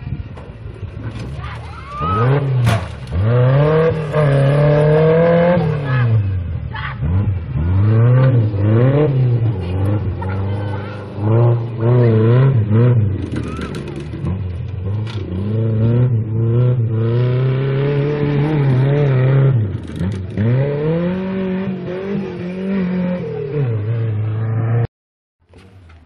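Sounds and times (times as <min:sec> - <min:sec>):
buggy engine revving: 0:00.0 - 0:24.9.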